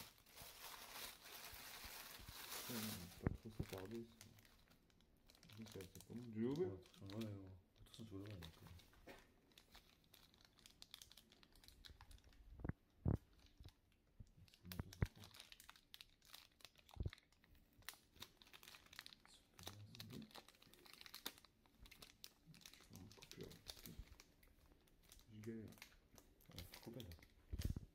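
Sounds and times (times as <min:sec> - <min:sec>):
plastic bags crinkling: 0:00.0 - 0:13.8, 0:14.4 - 0:27.9.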